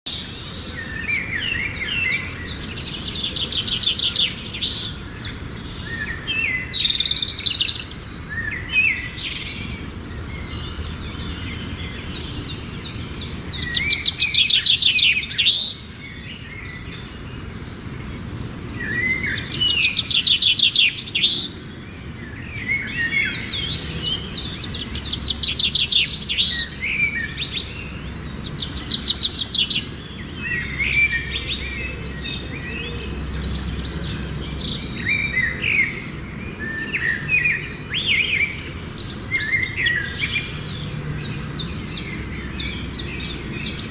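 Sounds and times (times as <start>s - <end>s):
songbirds trilling: 0.1s - 43.9s.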